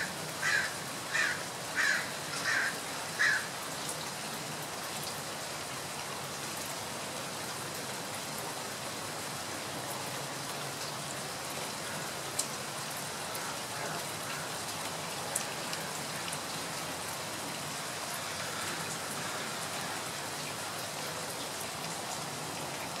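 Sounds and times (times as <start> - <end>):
rain hissing: 0.0 - 23.0.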